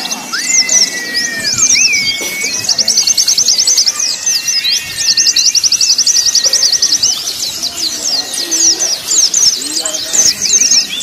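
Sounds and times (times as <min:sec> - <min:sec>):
bird chattering trills: 0:00.0 - 0:11.0.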